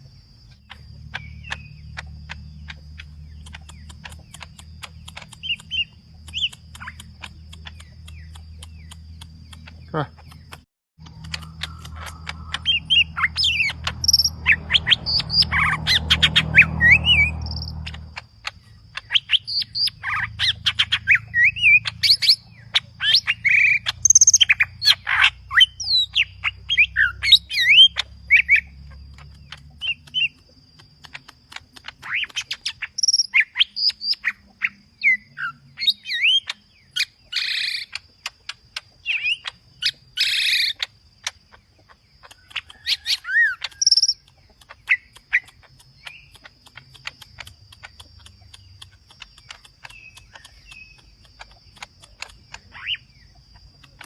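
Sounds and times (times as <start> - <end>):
bird singing with chirps and whistles: 0.0 - 54.0.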